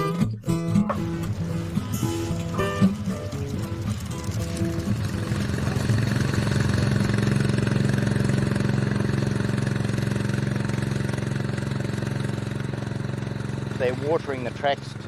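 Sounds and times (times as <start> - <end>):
vehicle engine running steadily: 0.0 - 15.0.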